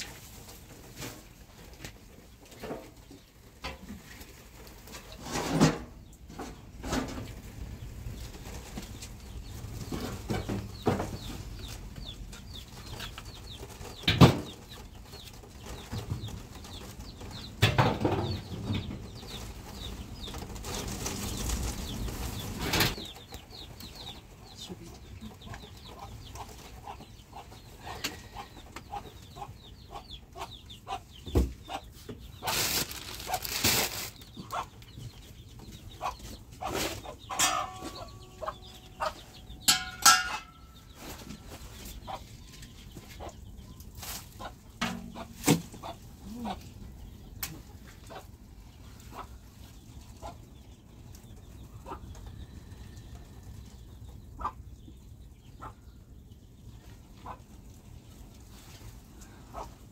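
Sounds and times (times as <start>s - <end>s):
chickens clucking and peeping: 0.0s - 59.9s.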